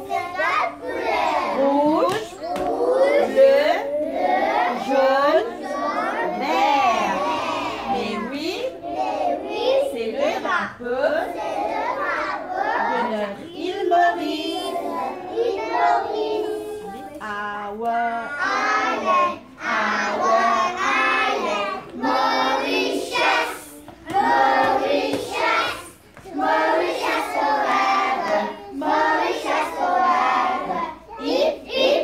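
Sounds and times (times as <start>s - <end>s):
children singing together: 0.0s - 32.0s.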